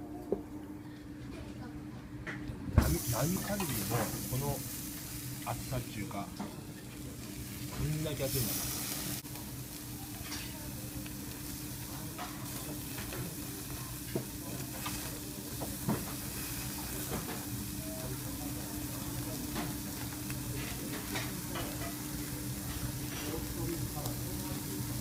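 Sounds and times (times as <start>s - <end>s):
steady low hum: 0.0s - 25.0s
meat sizzling on a grill: 2.8s - 25.0s.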